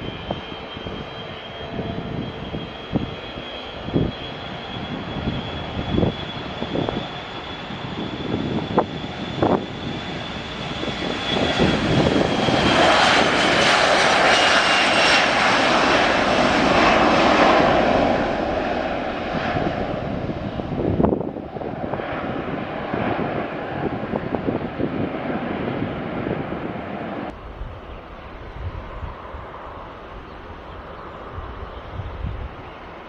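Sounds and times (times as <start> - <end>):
airliner engines rushing: 0.0 - 33.0.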